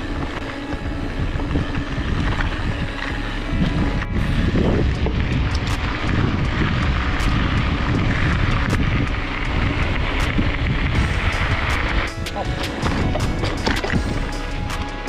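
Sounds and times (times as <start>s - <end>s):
bike clicks and rattles: 0.0s - 15.0s
wind buffeting microphone: 0.0s - 15.0s.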